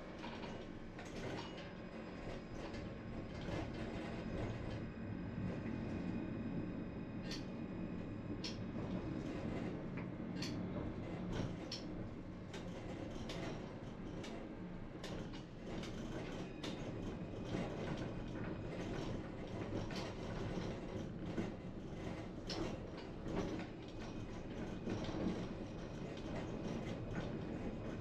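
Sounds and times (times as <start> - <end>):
tram rumbling along rails: 0.0 - 28.0.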